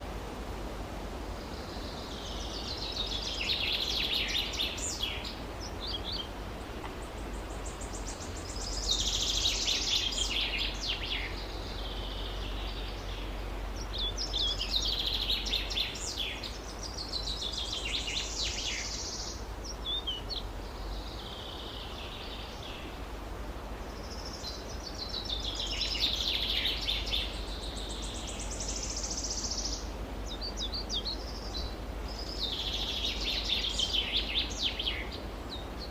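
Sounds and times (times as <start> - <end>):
songbird twittering: 1.5 - 23.0, 23.8 - 35.9.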